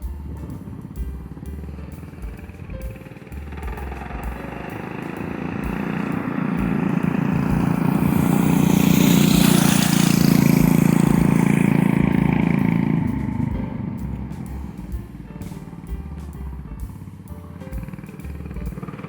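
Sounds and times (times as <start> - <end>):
mini bike engine running: 0.0 - 15.9, 17.6 - 19.0.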